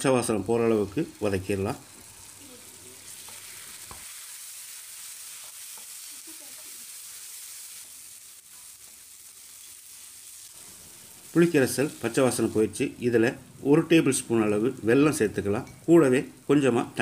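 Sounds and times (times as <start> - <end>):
onions sizzling in a frying pan: 0.0 - 17.0.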